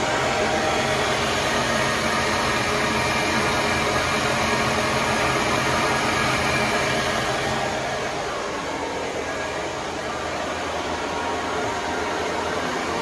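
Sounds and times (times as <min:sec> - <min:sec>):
faint whining tones: 0:00.0 - 0:13.0
spinner machine whirring: 0:00.0 - 0:13.0.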